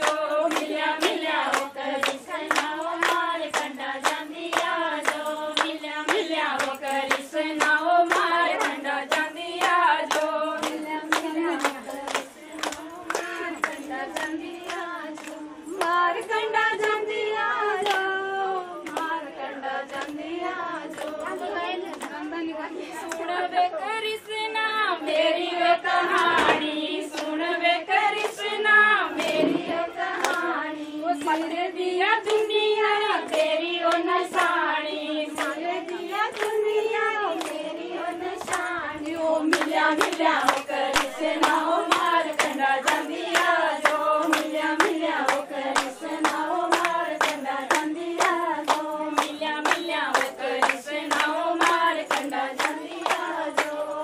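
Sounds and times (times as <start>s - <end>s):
rhythmic handclaps: 0.0s - 54.0s
women singing in unison: 0.0s - 54.0s.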